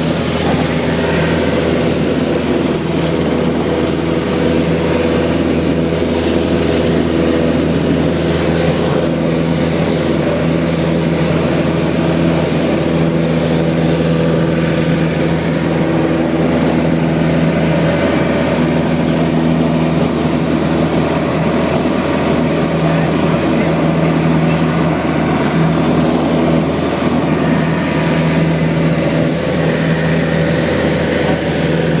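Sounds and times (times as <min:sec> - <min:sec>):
aircraft engine and propeller droning: 0:00.0 - 0:32.0.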